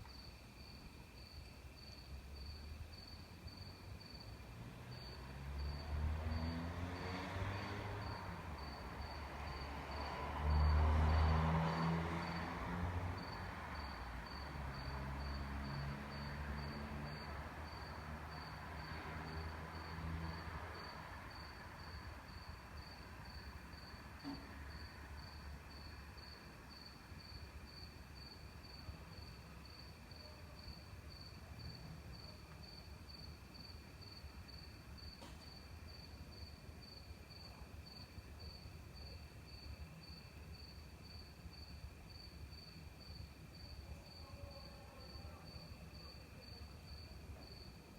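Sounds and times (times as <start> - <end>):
cricket chirping: 0.0 - 47.9.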